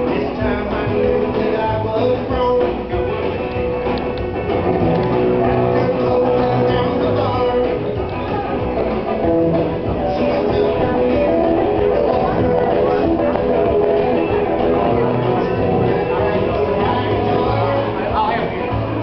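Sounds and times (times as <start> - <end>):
guitars: 0.0 - 19.0
live band playing: 0.0 - 19.0.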